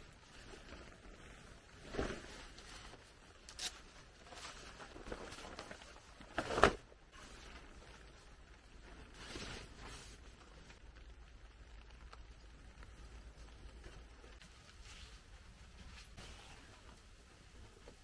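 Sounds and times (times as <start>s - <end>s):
jacket fabric rustling: 0.0s - 10.8s, 13.2s - 18.0s.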